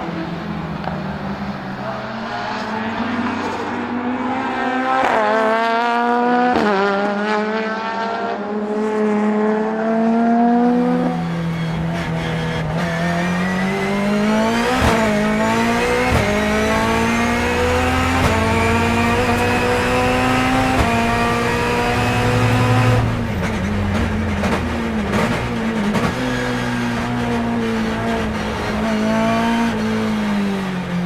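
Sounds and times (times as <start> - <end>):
race car engine accelerating: 0.0 - 31.0.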